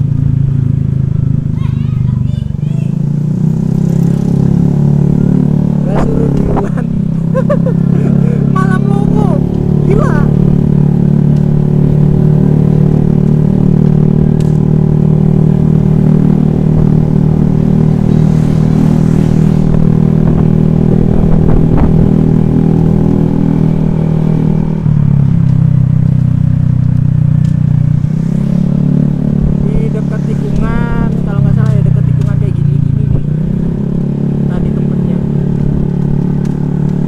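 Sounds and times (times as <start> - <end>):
scooter engine running: 0.0 - 37.0.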